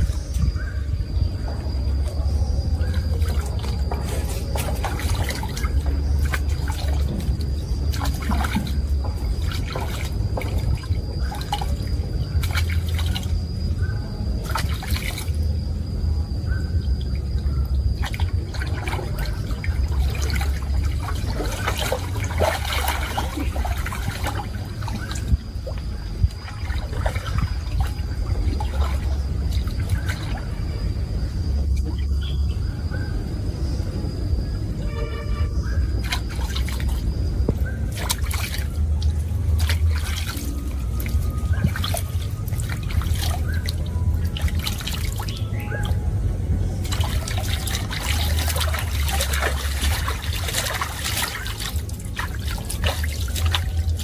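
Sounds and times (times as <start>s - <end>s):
steady low rumble: 0.0s - 54.0s
pool water splashing: 1.8s - 16.1s, 16.7s - 32.3s, 35.9s - 54.0s.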